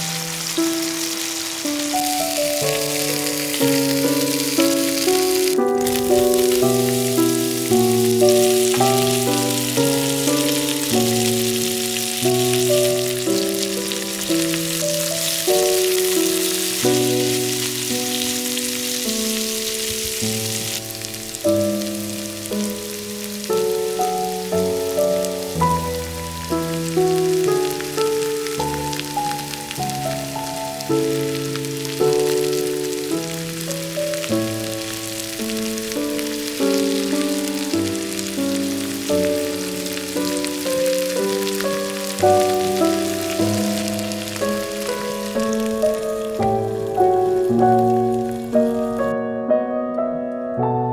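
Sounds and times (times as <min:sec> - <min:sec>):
onions sizzling in a frying pan: 0:00.0 - 0:49.1
background music: 0:00.0 - 0:50.9.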